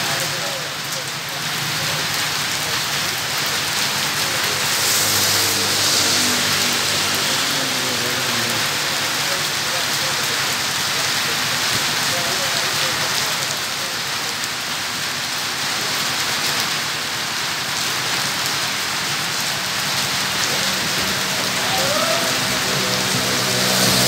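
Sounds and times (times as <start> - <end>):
rain on wet road: 0.0 - 24.0.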